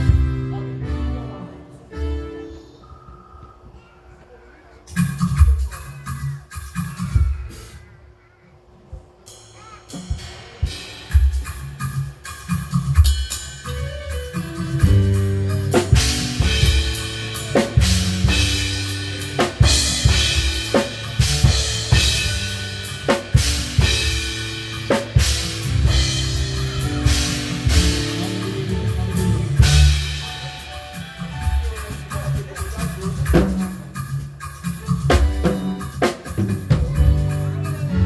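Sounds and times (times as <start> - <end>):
drum kit playing a groove: 0.0 - 1.5, 4.9 - 7.8, 9.3 - 38.0.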